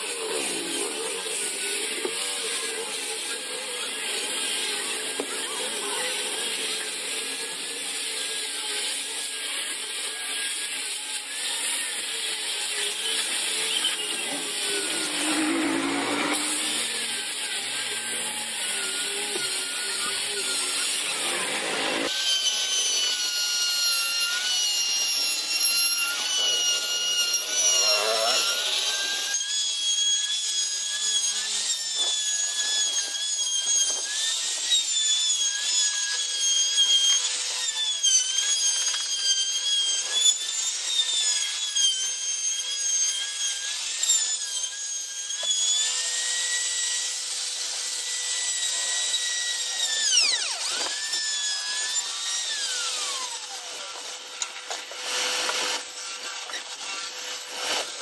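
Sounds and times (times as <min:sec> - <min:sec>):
electric router cutting wood: 0:00.0 - 0:58.0.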